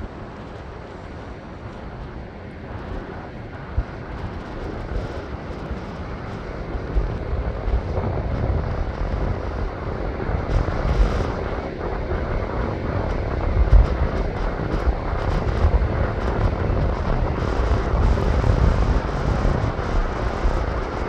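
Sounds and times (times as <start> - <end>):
surf washing: 0.0 - 21.0
wind buffeting microphone: 0.0 - 21.0.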